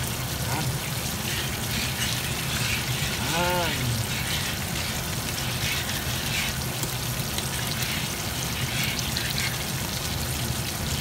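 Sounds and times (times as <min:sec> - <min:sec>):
sauce bubbling in a pot: 0:00.0 - 0:11.0.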